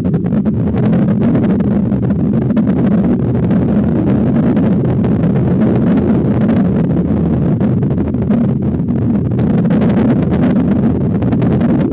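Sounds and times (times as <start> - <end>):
muffled underwater rushing water: 0.0 - 11.9.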